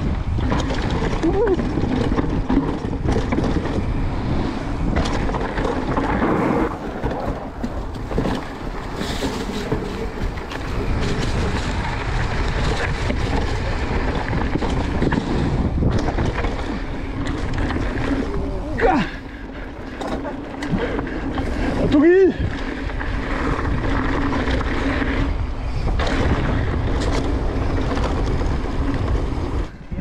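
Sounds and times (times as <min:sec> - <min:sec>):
mountain bike rolling on rough trail: 0:00.0 - 0:30.0
wind buffeting microphone: 0:00.0 - 0:30.0.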